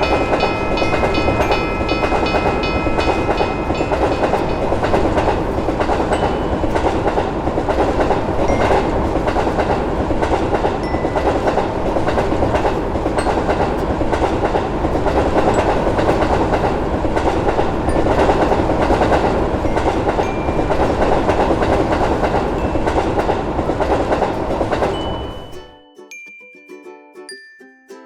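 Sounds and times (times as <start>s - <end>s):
wheels clattering over rails: 0.0s - 25.6s
train rumbling: 0.0s - 25.7s.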